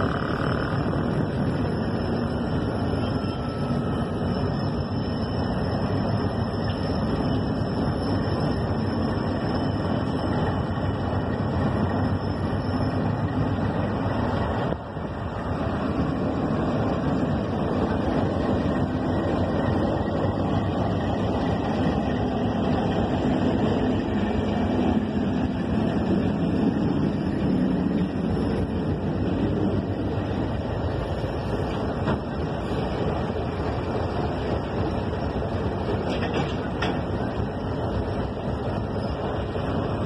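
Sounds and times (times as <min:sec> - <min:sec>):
freight wagons rolling on rails: 0:00.0 - 0:40.0
low locomotive engine rumble: 0:00.0 - 0:40.0.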